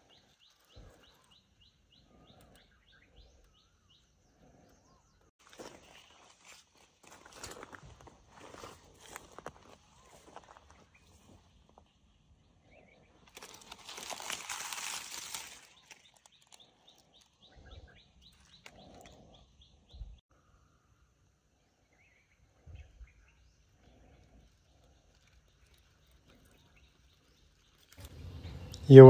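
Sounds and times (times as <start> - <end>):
small bird chirping: 0.0 - 6.5, 8.6 - 20.8, 21.6 - 29.0.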